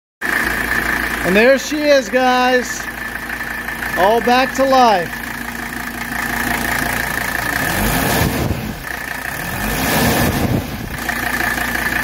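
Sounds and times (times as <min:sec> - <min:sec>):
diesel engine idling and revving: 0:00.2 - 0:12.0.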